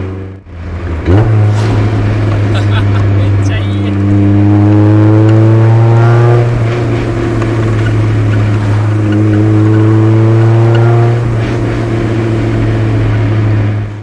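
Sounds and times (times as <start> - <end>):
car exhaust note while driving: 0.0 - 14.0.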